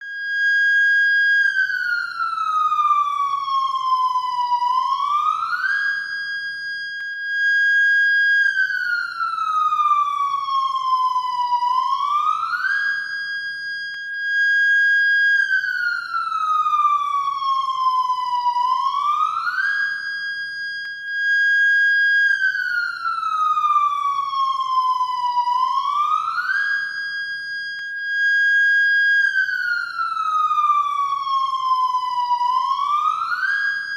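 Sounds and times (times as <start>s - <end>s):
electronic siren wailing: 0.0s - 33.9s.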